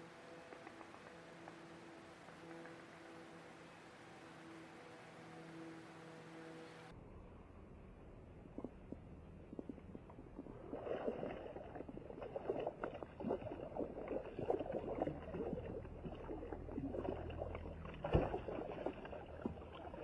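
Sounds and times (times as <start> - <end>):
water splashing around a kayak: 0.0 - 6.9, 8.6 - 20.0.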